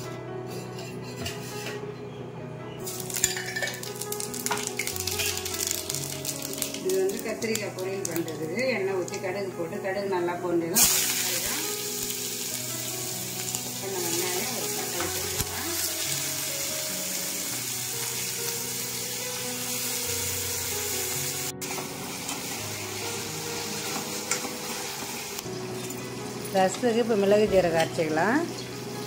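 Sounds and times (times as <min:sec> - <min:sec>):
vegetables sizzling in hot oil: 0:02.8 - 0:29.0.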